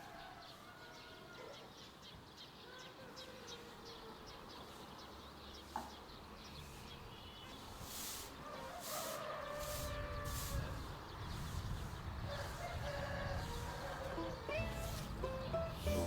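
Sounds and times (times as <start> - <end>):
small birds chirping: 1.5 - 8.8, 9.4 - 16.0.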